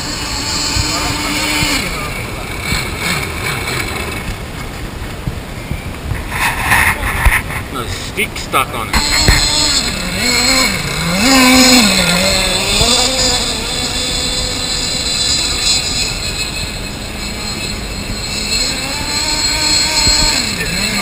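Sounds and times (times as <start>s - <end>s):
small two-stroke boat engine: 0.0s - 6.0s, 8.8s - 21.0s.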